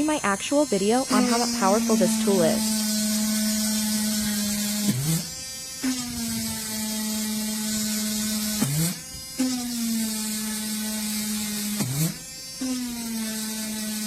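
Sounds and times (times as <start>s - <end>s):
rotary tool motor humming: 0.0s - 14.0s.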